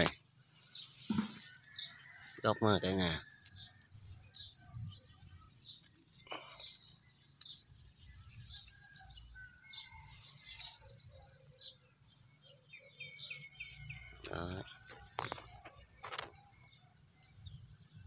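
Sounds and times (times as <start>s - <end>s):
small birds and insects chirping: 0.0s - 18.0s.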